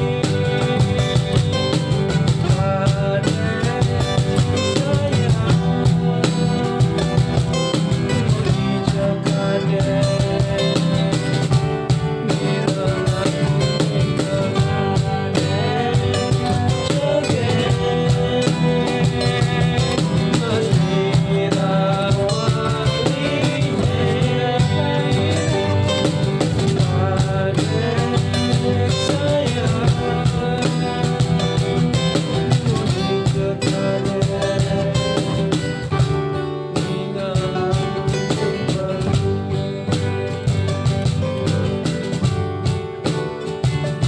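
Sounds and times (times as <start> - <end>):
drum kit beat: 0.0 - 44.0
guitars: 0.0 - 44.0.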